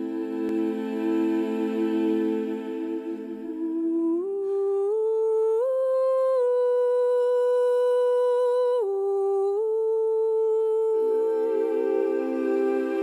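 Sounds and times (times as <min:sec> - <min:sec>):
hum-like melody: 0:00.0 - 0:13.0.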